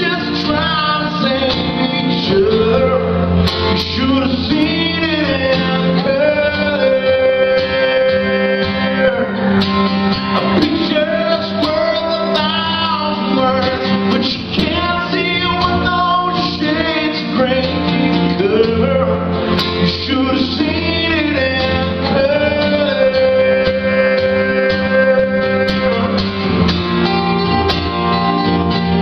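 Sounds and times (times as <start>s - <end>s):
acoustic guitar strumming: 0.0s - 29.0s
man singing: 0.0s - 29.0s.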